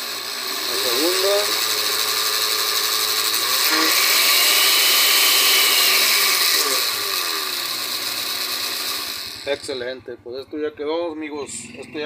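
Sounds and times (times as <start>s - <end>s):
blender motor whirring: 0.0s - 9.7s.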